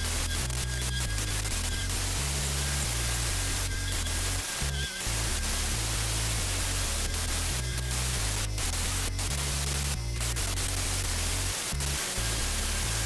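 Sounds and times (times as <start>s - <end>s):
background music with bass line: 0.0s - 13.0s.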